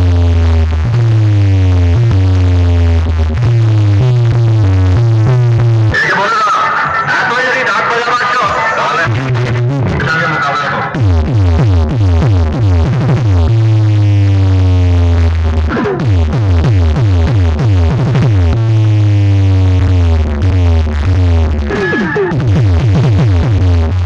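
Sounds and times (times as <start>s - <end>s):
electronic dance music: 0.0s - 24.0s.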